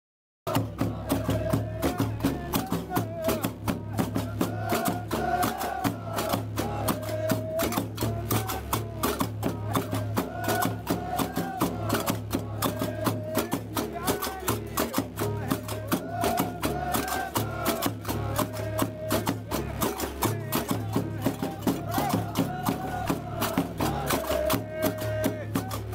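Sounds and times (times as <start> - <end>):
drums playing: 0.5 - 25.9
men chanting: 0.5 - 25.9.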